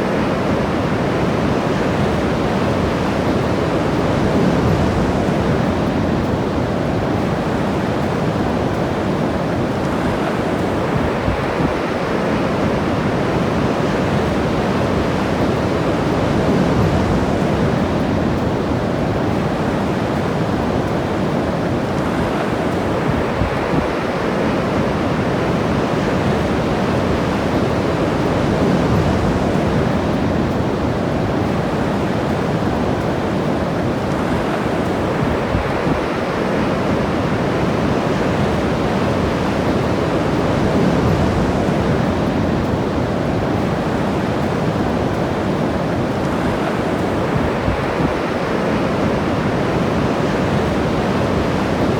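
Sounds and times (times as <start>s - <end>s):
ocean surf washing ashore: 0.0s - 51.9s.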